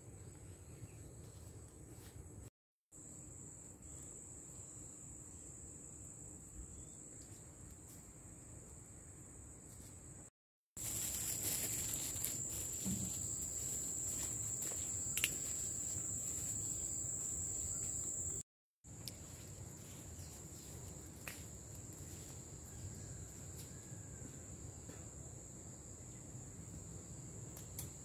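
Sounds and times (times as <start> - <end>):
insects droning: 3.0 - 28.0.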